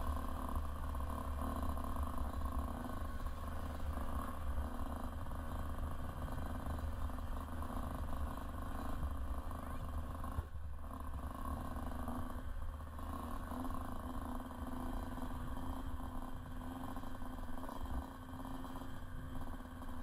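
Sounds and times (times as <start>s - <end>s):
motocross bike engine low revs: 0.0s - 20.0s.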